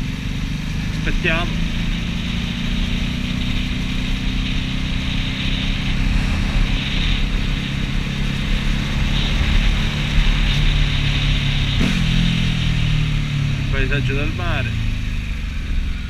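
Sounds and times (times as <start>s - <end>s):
wind noise: 0.0s - 13.7s
motorcycle engine running: 0.0s - 16.0s.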